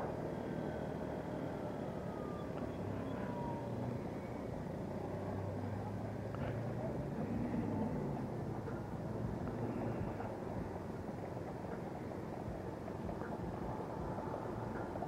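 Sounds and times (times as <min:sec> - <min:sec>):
faint gliding tone: 0:00.0 - 0:15.0
low hum: 0:00.0 - 0:15.0
vehicle road and engine noise: 0:00.0 - 0:15.0.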